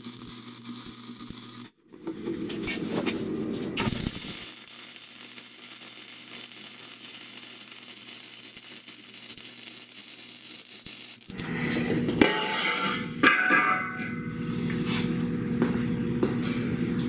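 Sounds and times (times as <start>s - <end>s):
welding arc crackling sizzle: 0.0s - 14.4s.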